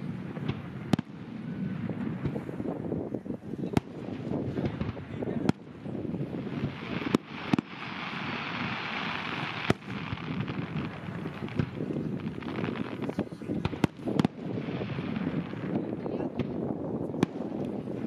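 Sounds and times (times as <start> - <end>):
fireworks bursting in bangs: 0.0 - 18.0.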